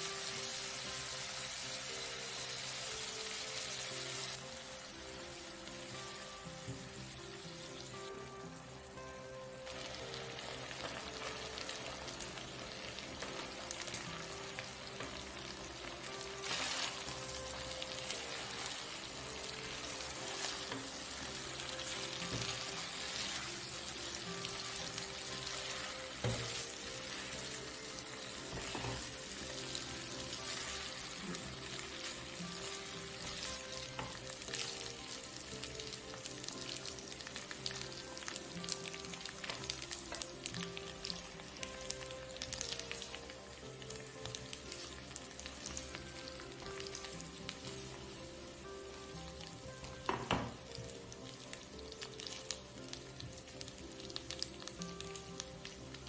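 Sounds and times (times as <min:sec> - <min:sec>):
shrimp sizzling in a frying pan: 0:00.0 - 0:56.0.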